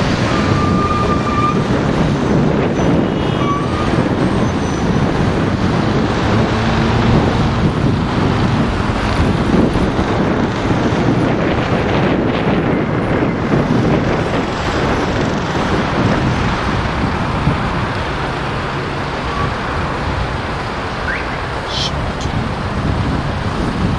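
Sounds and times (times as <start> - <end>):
city street traffic: 0.0 - 23.9
wind buffeting the microphone: 0.0 - 23.9.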